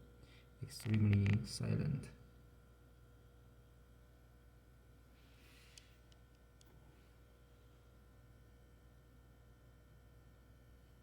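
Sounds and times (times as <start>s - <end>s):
refrigerator compressor hum: 0.0s - 11.0s.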